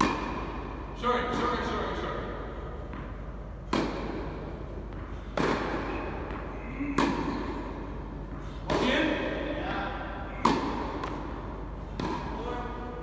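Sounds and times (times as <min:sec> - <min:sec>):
racquet hitting tennis ball: 0:00.0 - 0:13.0.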